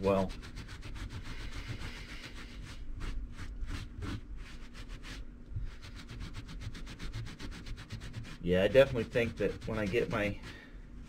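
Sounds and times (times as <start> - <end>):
pad scrubbing carpet: 0.0 - 10.7.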